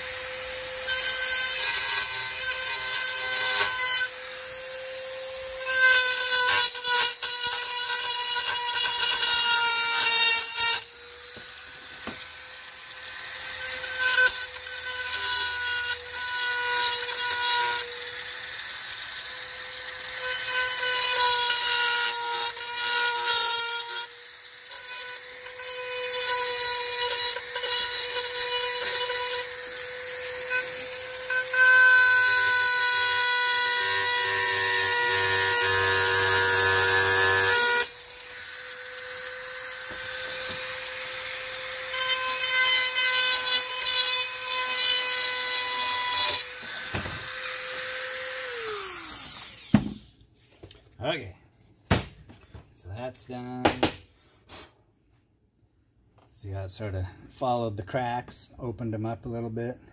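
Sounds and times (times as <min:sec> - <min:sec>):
rotary tool whining: 0:00.0 - 0:50.1.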